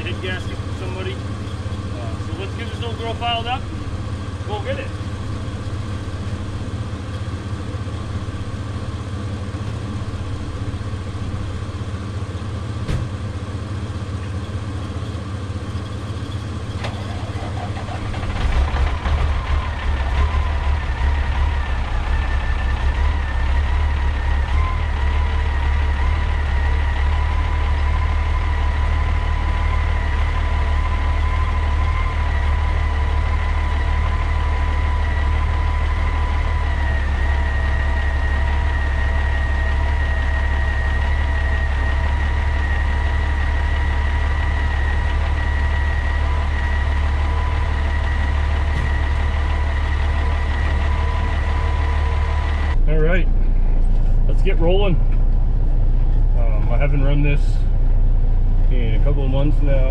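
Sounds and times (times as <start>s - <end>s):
diesel truck engine idling: 0.0s - 59.9s
steady whine: 0.0s - 59.9s.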